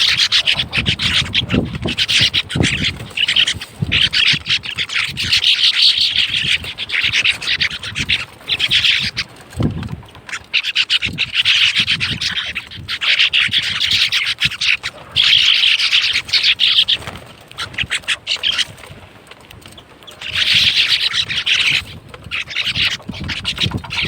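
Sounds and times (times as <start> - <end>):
sparrows chirping: 0.0 - 24.0.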